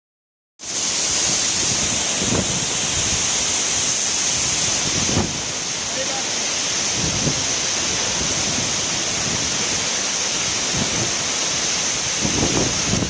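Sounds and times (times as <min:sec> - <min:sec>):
waterfall rushing: 0:00.6 - 0:13.0.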